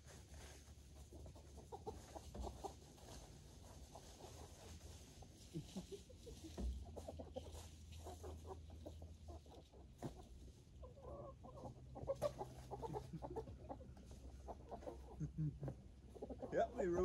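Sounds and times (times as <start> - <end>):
chickens clucking: 0.1 - 17.0.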